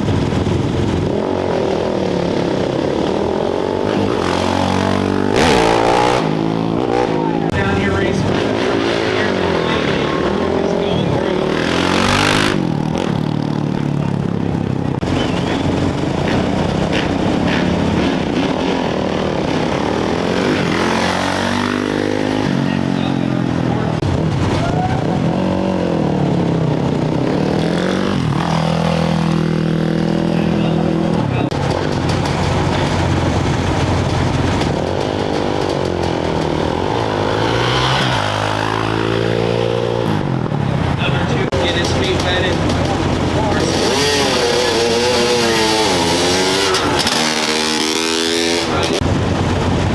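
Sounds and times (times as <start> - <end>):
motorcycle engines revving: 0.0 - 49.9
motorcycle idling: 9.0 - 49.9.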